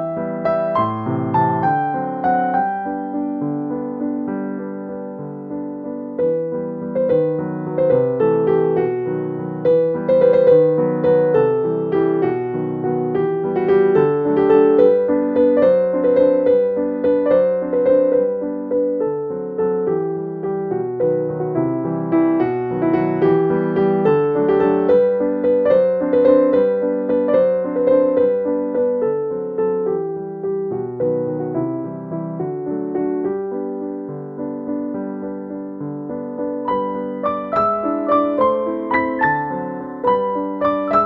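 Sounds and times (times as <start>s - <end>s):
piano music with plucked notes: 0.0s - 41.0s.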